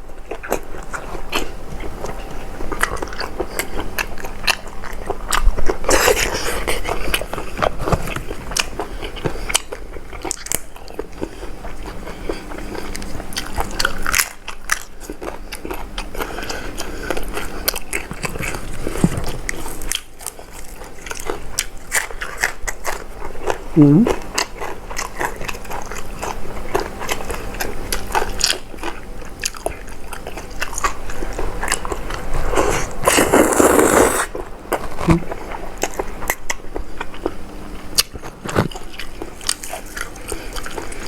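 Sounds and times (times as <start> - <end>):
person chewing food: 0.1 - 41.0.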